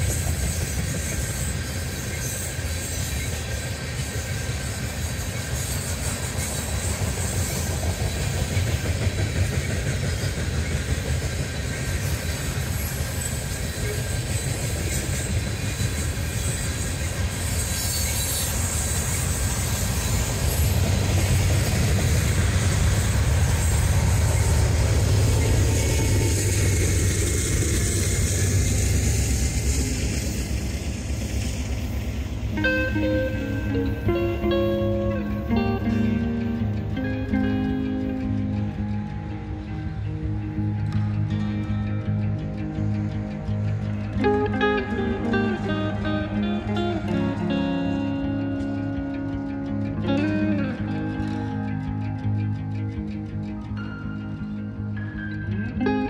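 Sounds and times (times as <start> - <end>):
train wheels rumbling on rail: 0.0 - 56.0
wheels clacking over rail joints: 0.0 - 56.0.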